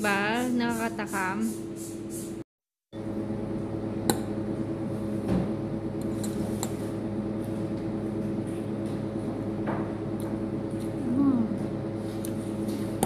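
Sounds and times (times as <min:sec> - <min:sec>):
steady low hum: 0:00.0 - 0:02.4, 0:03.0 - 0:13.0.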